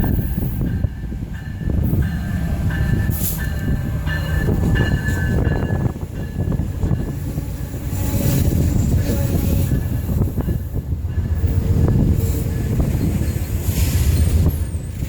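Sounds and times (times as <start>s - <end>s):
train rumbling past: 0.0s - 15.0s
wheels squealing on rails: 1.7s - 15.0s.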